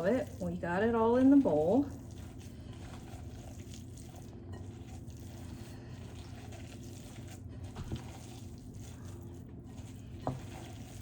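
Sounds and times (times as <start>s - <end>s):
hands squishing wet mixture: 0.0s - 11.0s.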